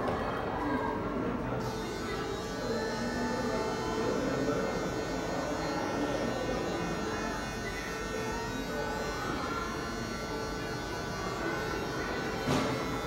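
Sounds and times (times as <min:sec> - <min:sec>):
electric hair clippers buzzing: 0:01.4 - 0:13.0.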